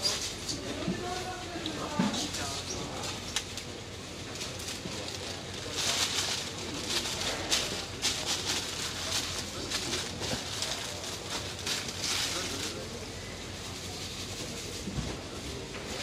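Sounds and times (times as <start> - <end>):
paper rustling and crinkling: 0.8 - 16.0.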